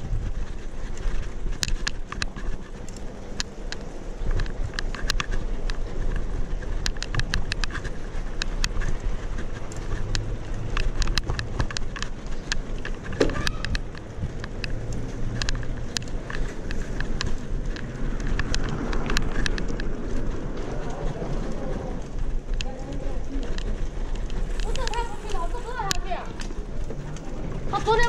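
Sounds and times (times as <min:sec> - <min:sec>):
bicycle wheels clicking over slabs: 0:00.0 - 0:28.0
tyre and wind rumble: 0:00.0 - 0:28.0.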